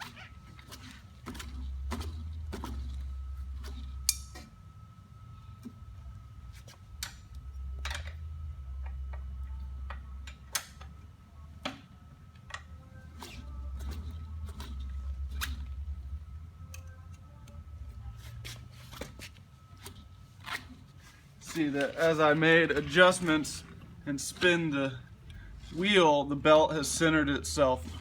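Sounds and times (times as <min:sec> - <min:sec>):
wheel and drive belt humming: 0:00.0 - 0:28.0.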